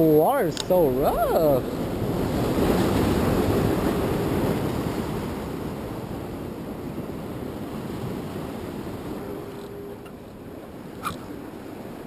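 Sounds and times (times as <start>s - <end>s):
wave crashing on rocks: 0.0s - 12.0s.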